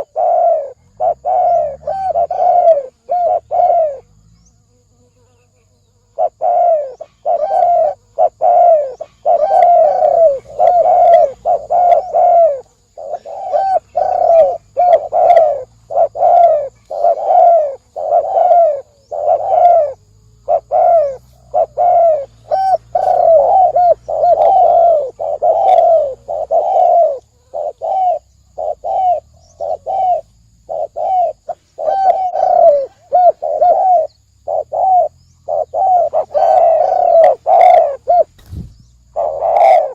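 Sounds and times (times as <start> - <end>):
dove cooing: 0.0 - 4.4, 6.1 - 39.9.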